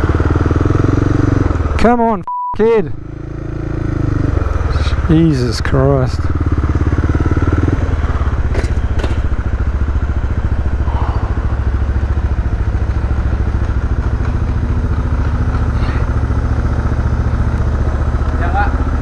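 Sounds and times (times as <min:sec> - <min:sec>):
motorcycle engine idling: 0:00.0 - 0:02.0, 0:03.0 - 0:19.0.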